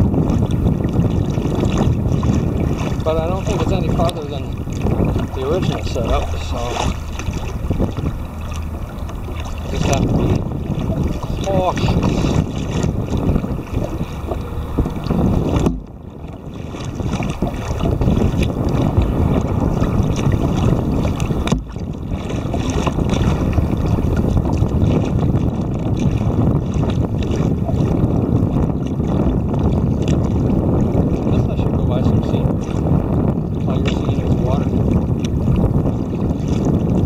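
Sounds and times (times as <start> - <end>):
waves slapping against hull: 0.0 - 37.0
wind buffeting microphone: 0.0 - 37.0.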